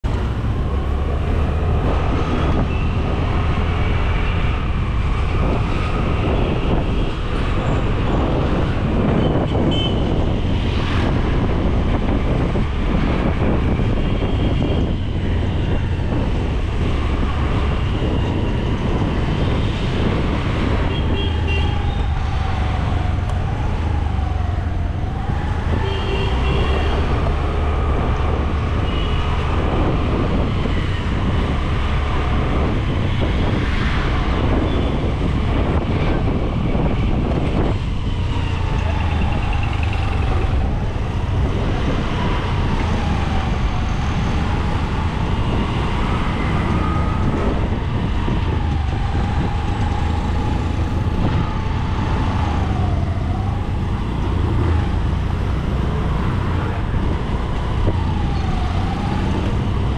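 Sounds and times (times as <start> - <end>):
steady low traffic rumble: 0.0 - 59.9
vehicles passing: 0.0 - 59.9.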